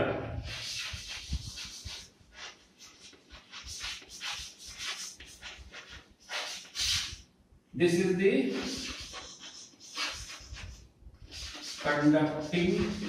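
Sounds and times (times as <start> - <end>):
chalk scratching on blackboard: 0.4 - 7.3, 8.5 - 13.0.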